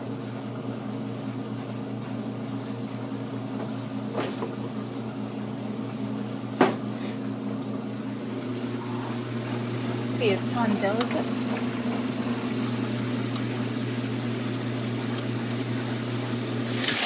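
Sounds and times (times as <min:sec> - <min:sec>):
washing machine humming: 0:00.0 - 0:17.0.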